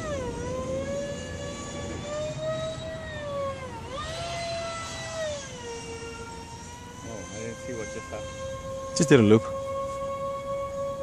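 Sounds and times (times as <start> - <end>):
model jet fans whining: 0.0 - 11.0.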